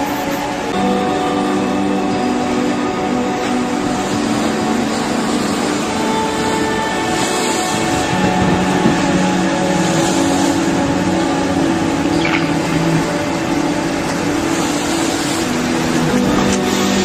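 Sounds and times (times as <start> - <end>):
held low tones: 0.0 - 17.0
roar of churning water: 0.0 - 17.0.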